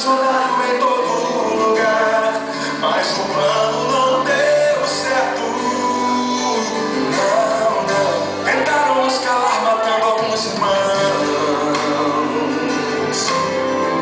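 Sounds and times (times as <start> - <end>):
guitar and band backing: 0.0 - 14.0.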